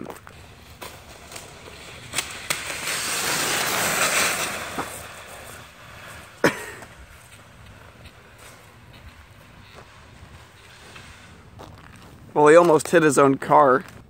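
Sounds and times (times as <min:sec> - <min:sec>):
sled scraping on ice: 0:00.0 - 0:13.9.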